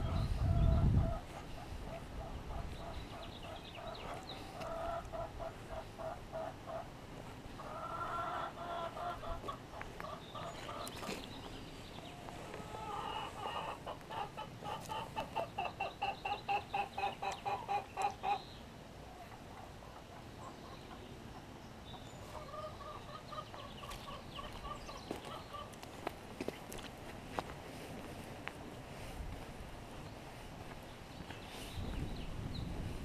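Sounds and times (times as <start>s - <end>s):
chickens clucking: 0.0s - 28.2s.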